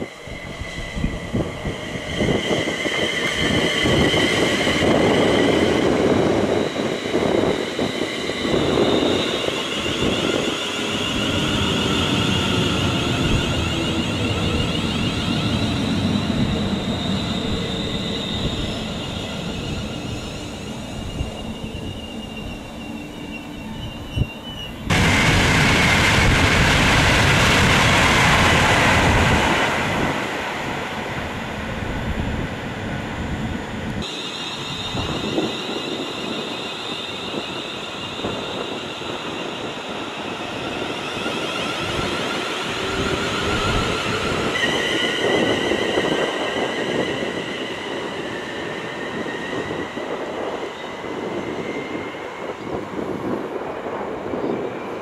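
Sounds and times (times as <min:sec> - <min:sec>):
train rushing past: 0:00.0 - 0:55.0
train whining tones: 0:00.0 - 0:55.0.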